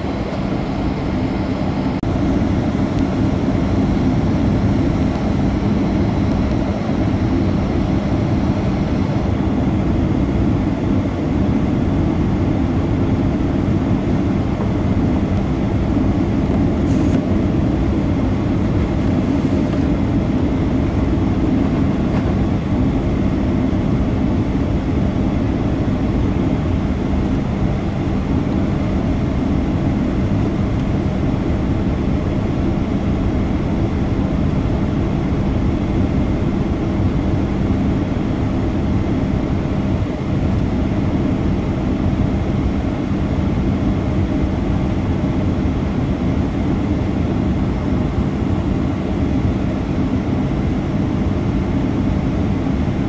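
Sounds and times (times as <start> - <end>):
airplane cabin air rush and drone: 0.0 - 53.0
steady low hum: 0.0 - 53.0.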